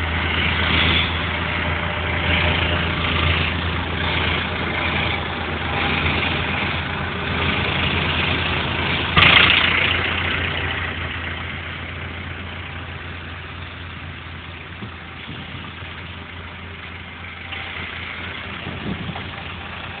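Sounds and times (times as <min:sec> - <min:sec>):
tractor diesel engines: 0:00.0 - 0:20.0.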